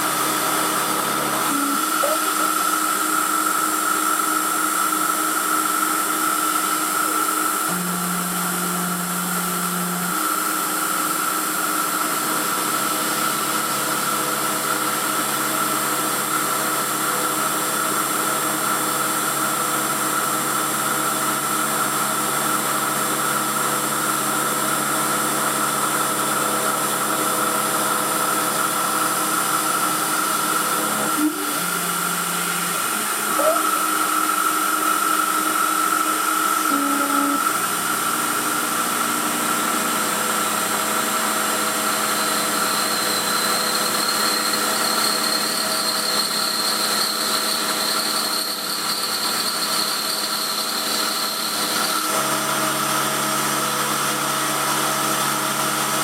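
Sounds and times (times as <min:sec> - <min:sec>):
milling machine motor whine: 0:00.0 - 0:56.0.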